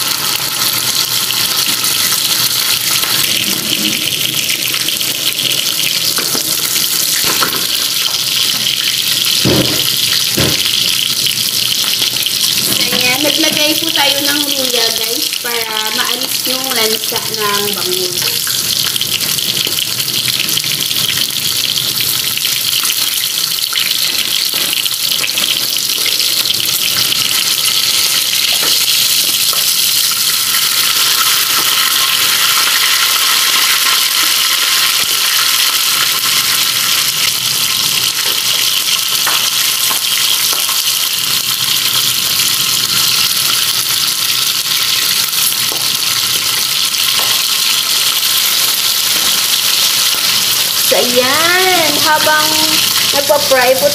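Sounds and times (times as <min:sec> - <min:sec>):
fish sizzling in hot oil: 0:00.0 - 0:53.9.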